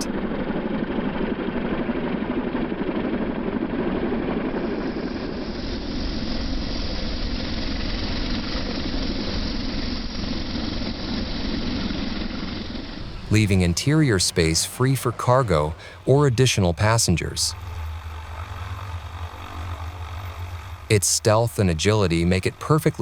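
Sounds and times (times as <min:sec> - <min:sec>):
helicopter rotor and engine: 0:00.0 - 0:23.0.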